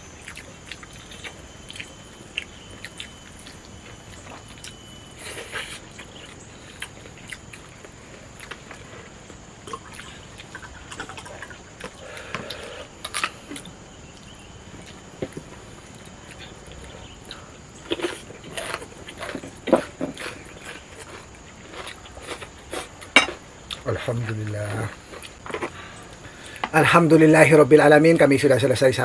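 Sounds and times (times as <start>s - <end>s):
people chewing: 0.0s - 27.5s.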